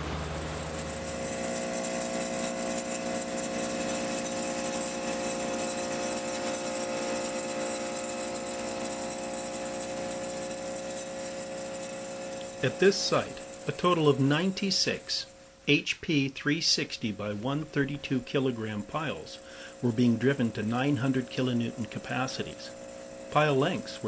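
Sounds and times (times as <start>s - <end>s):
pile driver machine hum: 0.0s - 15.4s, 16.7s - 24.0s.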